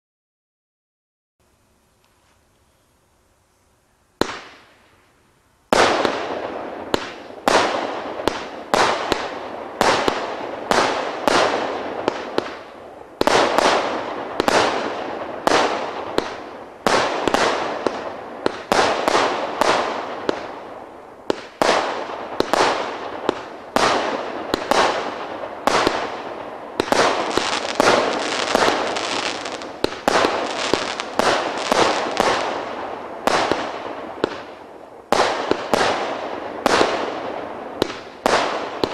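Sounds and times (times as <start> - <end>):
firework shells exploding: 5.7 - 38.9.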